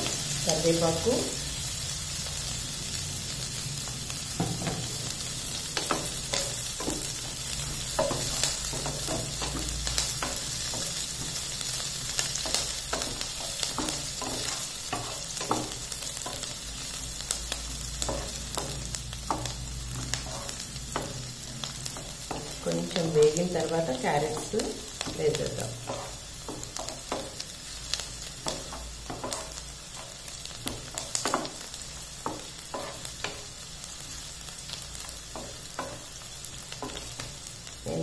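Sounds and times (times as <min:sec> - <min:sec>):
onions frying in oil sizzling: 0:00.0 - 0:38.0.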